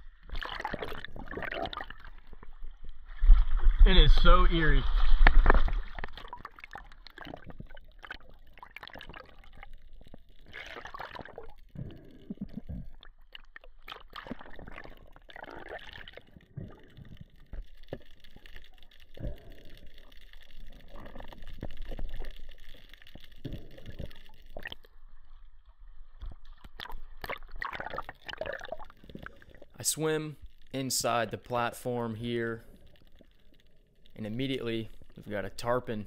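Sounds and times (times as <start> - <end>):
underwater gurgling and sloshing: 0.0 - 36.0.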